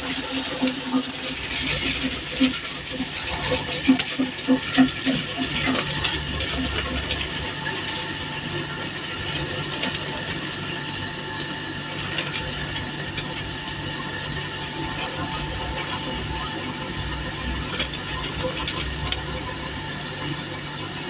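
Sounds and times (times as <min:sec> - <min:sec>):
ice machine humming: 0:00.0 - 0:21.0.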